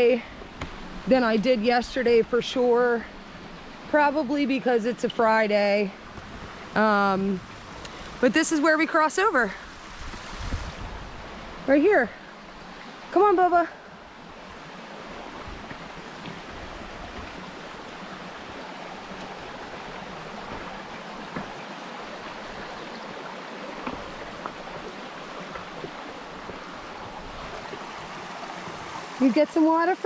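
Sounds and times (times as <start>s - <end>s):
stream flowing over rocks: 0.0s - 30.0s.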